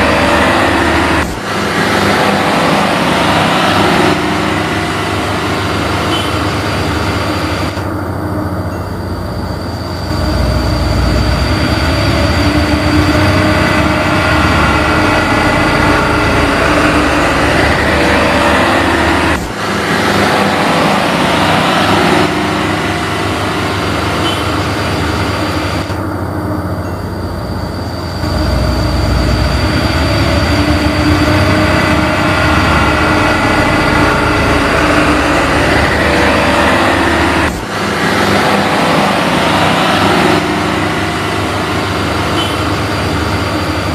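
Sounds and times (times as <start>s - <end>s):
high steady whine: 0.0s - 43.9s.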